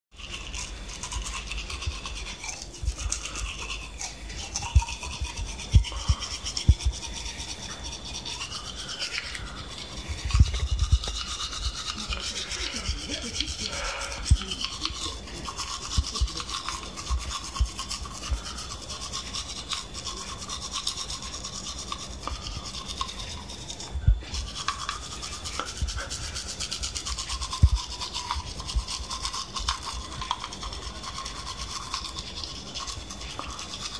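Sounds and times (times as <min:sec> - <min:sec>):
toothbrush scrubbing teeth: 0:00.1 - 0:33.9.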